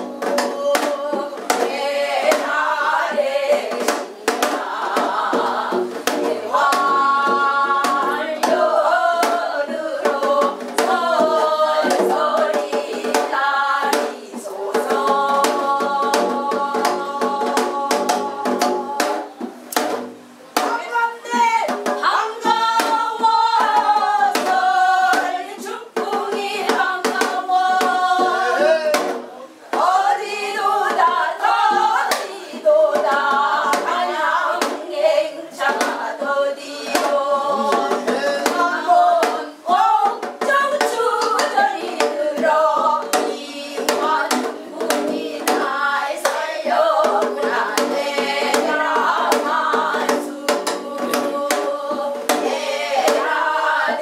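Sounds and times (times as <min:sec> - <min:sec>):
hourglass drum strokes: 0:00.0 - 0:54.0
women singing folk song: 0:00.0 - 0:54.0.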